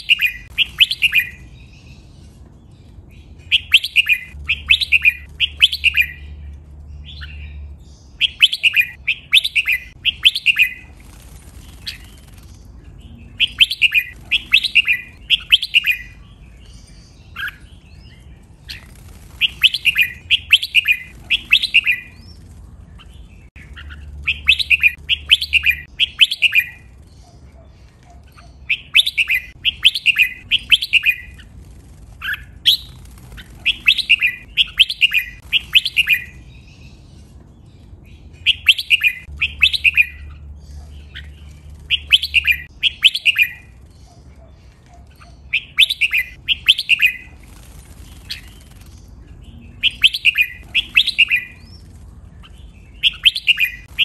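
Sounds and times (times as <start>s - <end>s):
bulbul singing whistled notes: 0.0s - 1.9s, 3.5s - 6.4s, 8.2s - 12.5s, 13.1s - 22.6s, 23.5s - 27.0s, 28.3s - 36.8s, 38.4s - 40.5s, 41.1s - 44.1s, 45.2s - 54.0s.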